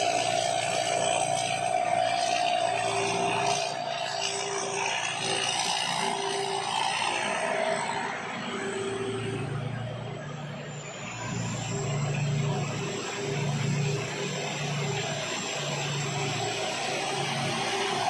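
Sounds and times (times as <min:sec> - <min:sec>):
combine harvester engine hum: 0:00.0 - 0:18.0.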